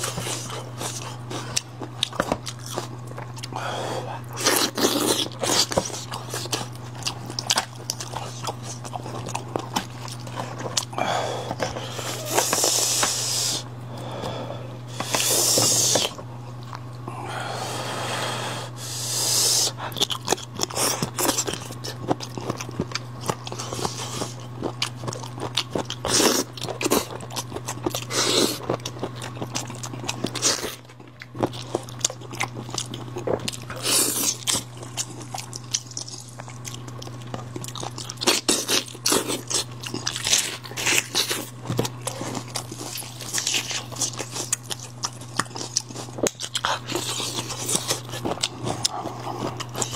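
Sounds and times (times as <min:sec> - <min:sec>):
chewing and biting meat: 0:00.0 - 0:17.2, 0:18.6 - 0:49.9
steady low hum: 0:00.0 - 0:49.9.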